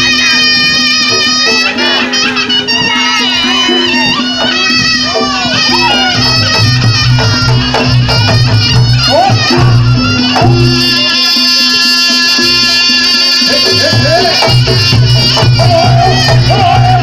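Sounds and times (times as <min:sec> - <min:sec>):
pulsing drum and gong beat: 0:00.0 - 0:17.0
shrill reed pipe melody: 0:00.0 - 0:17.0.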